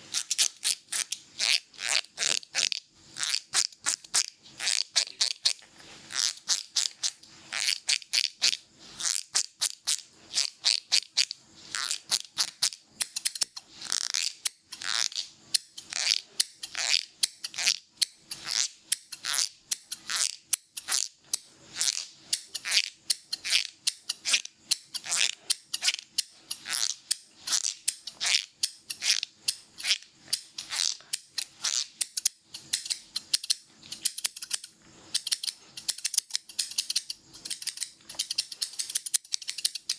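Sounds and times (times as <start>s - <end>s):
scissors snipping hair: 0.1s - 39.9s.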